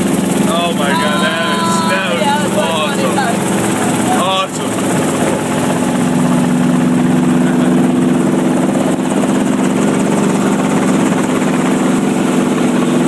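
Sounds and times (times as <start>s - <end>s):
helicopter engine and rotor hum: 0.0s - 13.0s.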